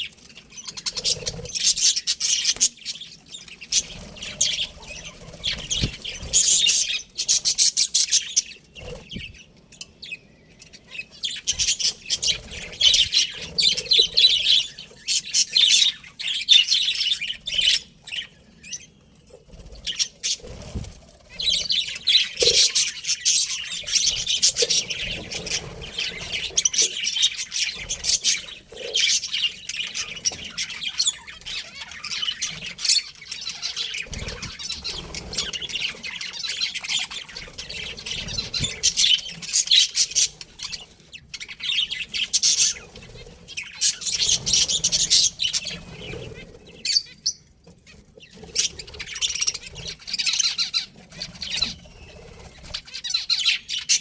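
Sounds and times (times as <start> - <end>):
budgerigars chirping: 0.0 - 19.0, 19.6 - 54.0.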